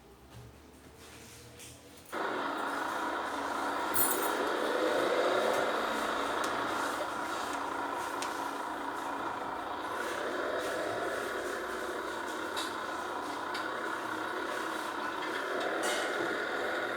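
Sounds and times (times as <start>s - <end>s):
heavy engine running: 2.1s - 16.9s.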